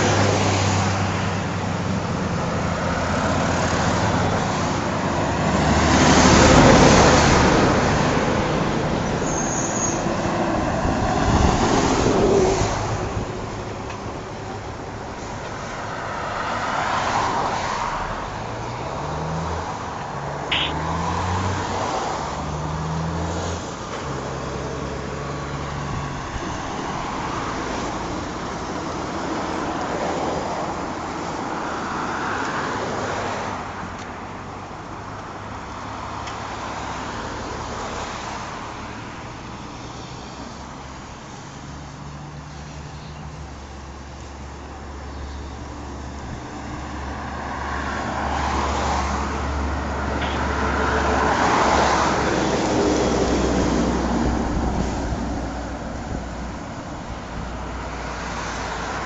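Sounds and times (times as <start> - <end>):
highway traffic passing: 0.0 - 59.0.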